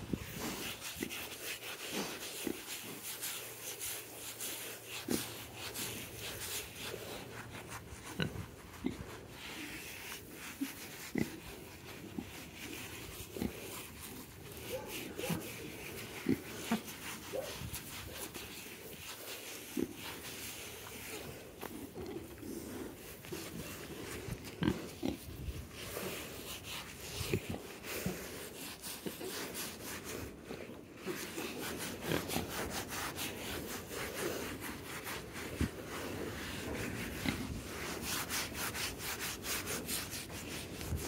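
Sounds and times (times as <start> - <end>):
glove scratching bristly coats: 0.0 - 41.0
straw rustling underfoot: 0.0 - 41.0.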